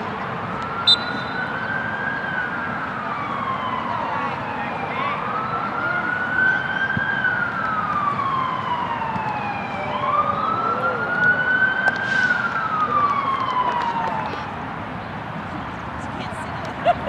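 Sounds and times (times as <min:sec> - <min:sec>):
wailing siren: 0:00.5 - 0:14.6.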